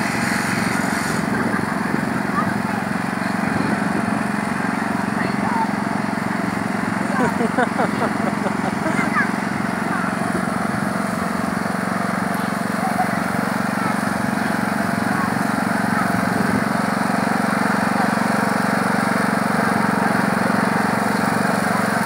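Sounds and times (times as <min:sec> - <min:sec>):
riding lawn mower engine: 0:00.0 - 0:22.0.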